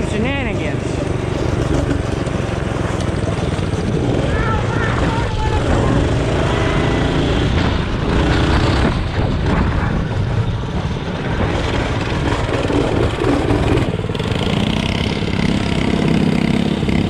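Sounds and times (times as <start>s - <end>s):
mini bike engine running: 0.0s - 17.0s.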